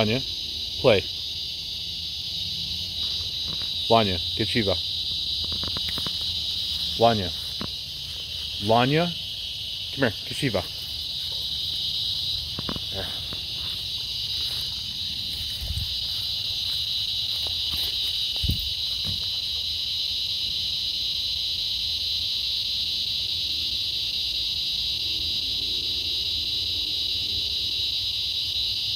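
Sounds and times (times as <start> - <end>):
insects droning: 0.0 - 28.9.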